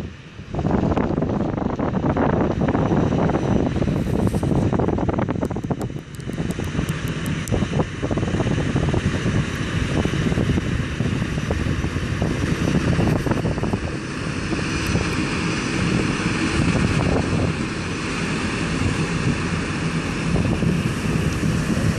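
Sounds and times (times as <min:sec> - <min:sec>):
diesel engine low drone: 0:00.0 - 0:21.9
propeller churning water: 0:00.0 - 0:21.9.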